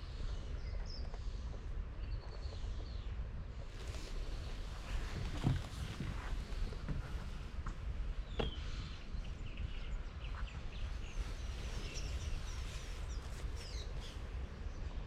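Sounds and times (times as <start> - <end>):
small birds chirping: 0.0 - 5.8, 8.1 - 15.0
steady low rumble: 0.0 - 15.0.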